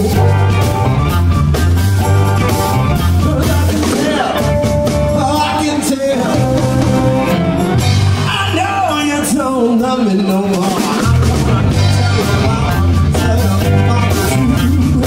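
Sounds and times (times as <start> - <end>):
lead vocal singing: 0.0 - 15.0
live blues band playing: 0.0 - 15.0.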